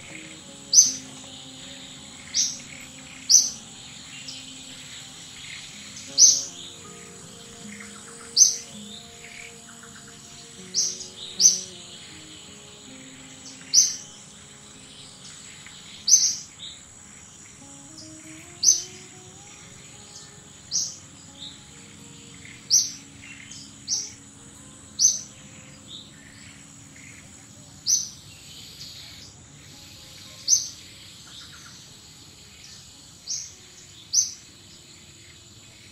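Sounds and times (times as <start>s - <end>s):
high-pitched insect drone: 0.0s - 35.9s.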